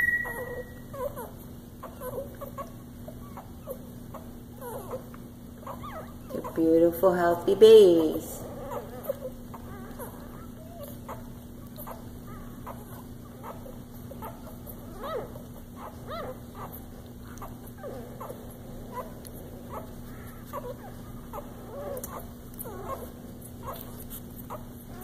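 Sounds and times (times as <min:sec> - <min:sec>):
puppies squeaking and whimpering: 0:00.0 - 0:25.0
steady low hum: 0:00.0 - 0:25.0.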